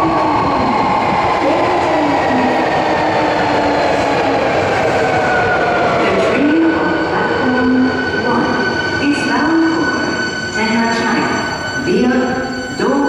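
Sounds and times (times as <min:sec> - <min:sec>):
subway train motor whine: 0:00.0 - 0:13.0.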